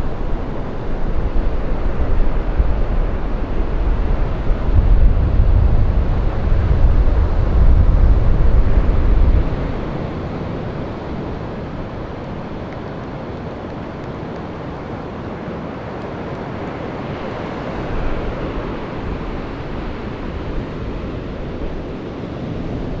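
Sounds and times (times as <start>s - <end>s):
ocean wave breaking: 0.0s - 23.0s
wash of surf: 0.0s - 23.0s.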